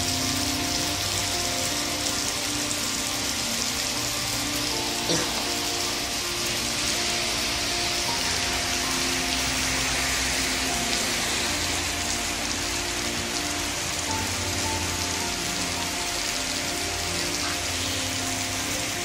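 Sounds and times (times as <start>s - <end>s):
heavy rain on pavement: 0.0s - 19.0s
soft background music: 0.0s - 19.0s.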